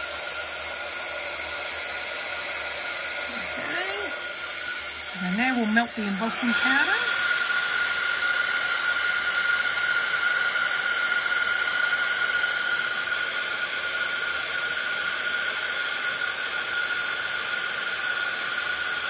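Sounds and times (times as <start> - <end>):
heat gun blowing air: 0.0 - 19.0.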